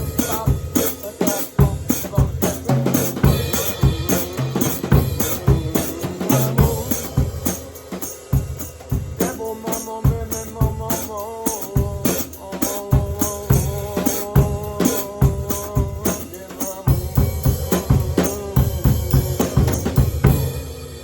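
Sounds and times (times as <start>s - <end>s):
drums played fast: 0.0s - 21.0s.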